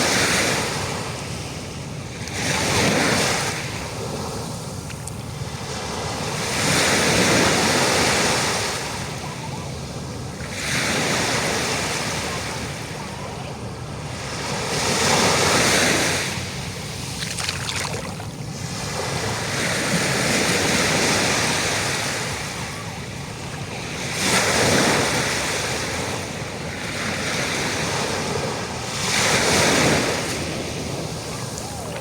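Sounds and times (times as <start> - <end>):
ocean waves breaking on shore: 0.0 - 32.0.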